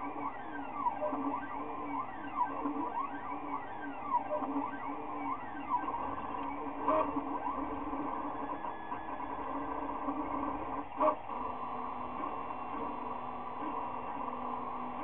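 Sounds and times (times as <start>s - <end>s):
printer stepper motors whining: 0.0s - 15.0s.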